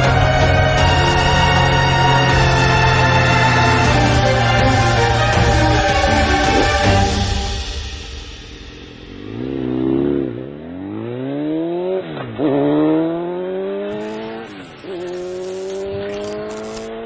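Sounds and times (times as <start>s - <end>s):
vehicle engine accelerating: 0.0s - 7.4s, 8.9s - 17.0s.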